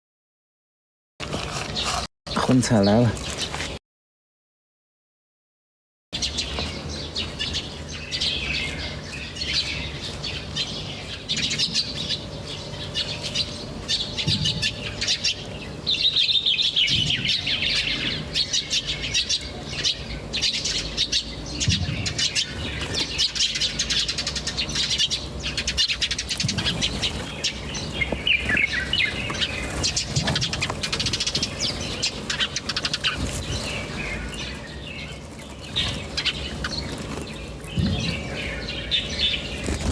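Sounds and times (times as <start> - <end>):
small birds chirping: 1.5 - 3.8, 6.2 - 39.9.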